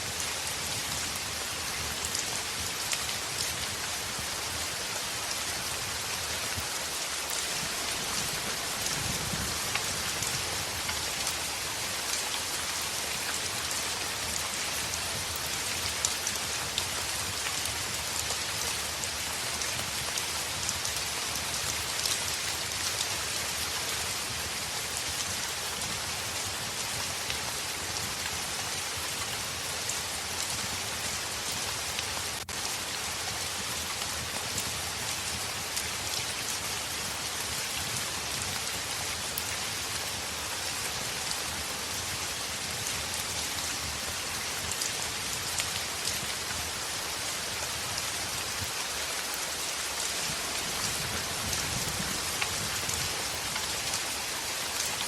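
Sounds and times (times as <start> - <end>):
heavy rain on a window: 0.0 - 55.0.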